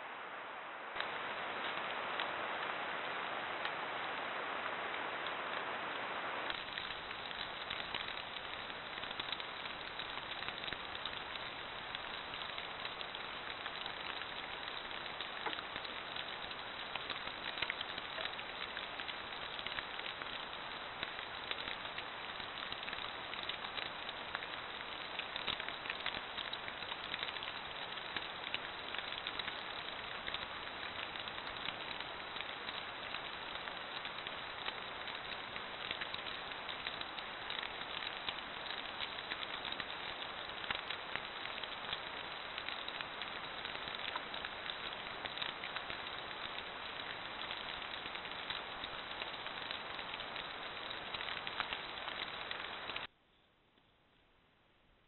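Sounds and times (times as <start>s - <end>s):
rain pattering on leaves: 0.0s - 53.1s
steady hiss: 0.0s - 53.4s.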